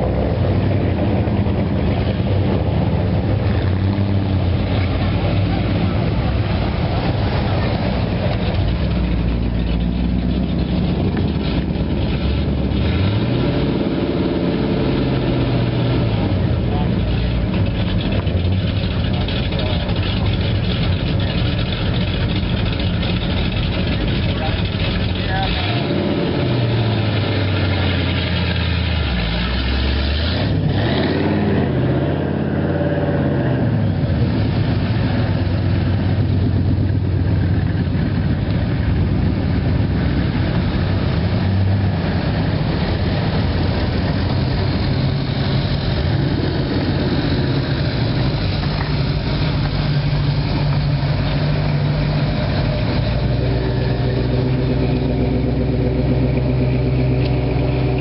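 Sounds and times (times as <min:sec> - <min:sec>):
car engines idling and revving: 0:00.0 - 0:58.0.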